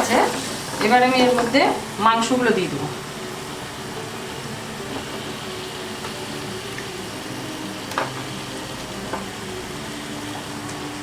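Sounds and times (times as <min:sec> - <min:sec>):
pan hum and hiss: 0:00.0 - 0:11.0.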